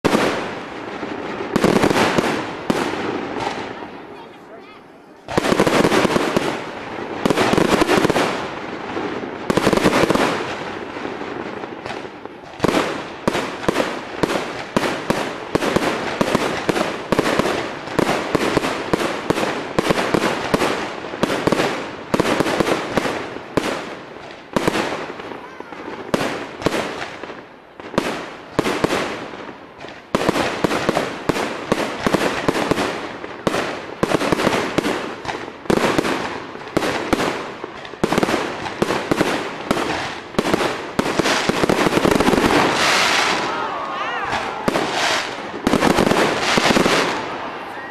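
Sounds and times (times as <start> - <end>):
fireworks crackling and banging: 0.0 - 47.9
heavy firework booms: 0.0 - 47.9.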